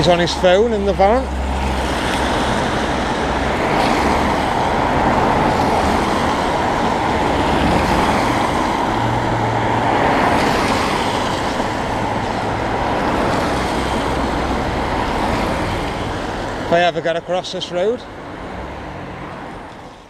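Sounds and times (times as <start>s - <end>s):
tyres on wet road: 0.0s - 20.0s
vehicles passing: 0.0s - 20.0s.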